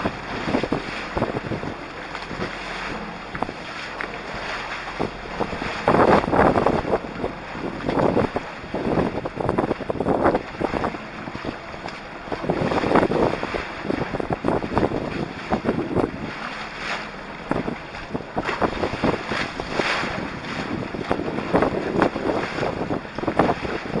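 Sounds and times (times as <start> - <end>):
water splashing against hull: 0.0 - 24.0
wind buffeting microphone: 0.0 - 24.0.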